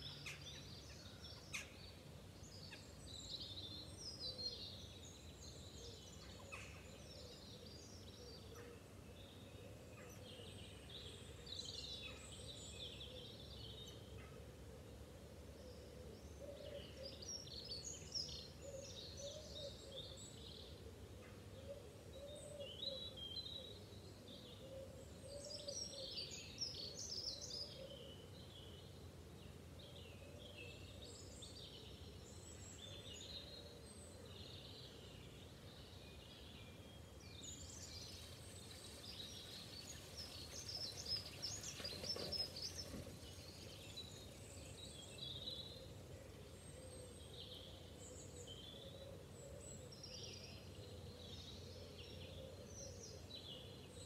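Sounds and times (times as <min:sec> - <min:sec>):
songbirds twittering: 0:00.0 - 0:54.0.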